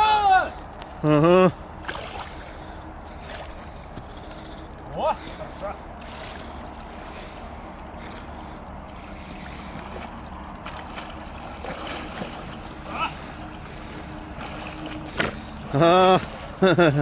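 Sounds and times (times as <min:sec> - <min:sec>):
faint water splashing: 0:00.4 - 0:17.0.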